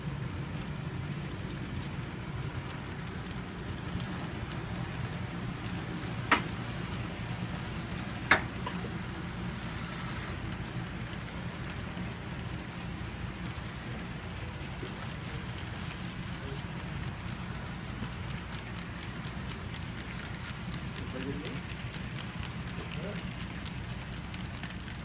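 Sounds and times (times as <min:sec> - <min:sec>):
model train wheels rumbling: 0:00.0 - 0:25.0.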